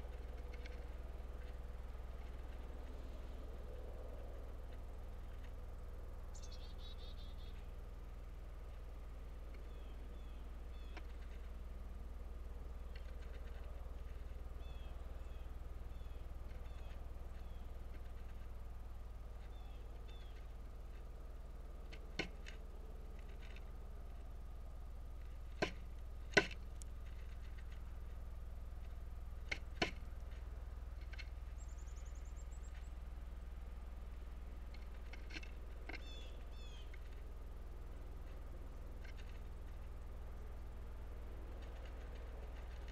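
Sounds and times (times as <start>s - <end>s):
woodpecker knocking on wood: 0.0s - 6.0s, 8.6s - 18.6s, 19.2s - 24.3s, 25.0s - 33.0s, 34.0s - 37.4s, 38.0s - 42.9s
steady low hum: 0.0s - 42.9s.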